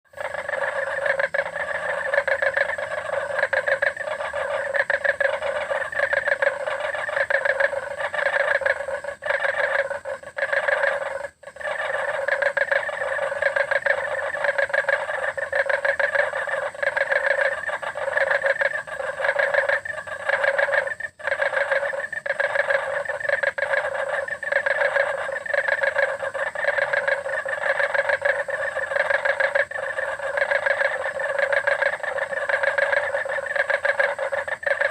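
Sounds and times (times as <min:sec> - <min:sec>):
chorus of frogs calling: 0:00.1 - 0:34.9.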